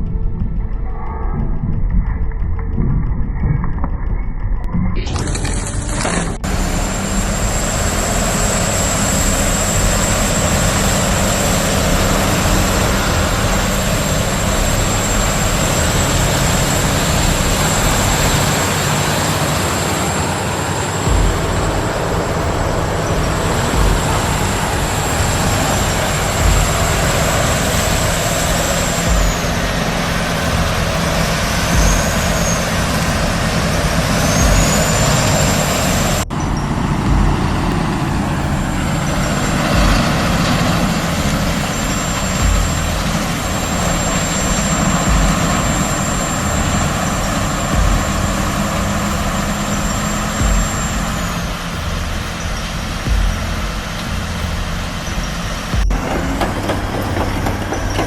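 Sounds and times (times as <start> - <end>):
deep diesel engine rumble: 0.0 - 58.0
thin high whine: 4.6 - 58.0.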